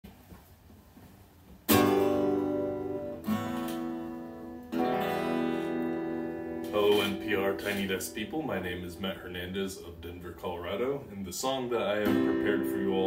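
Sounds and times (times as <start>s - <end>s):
acoustic guitar chords strummed: 1.7s - 13.0s.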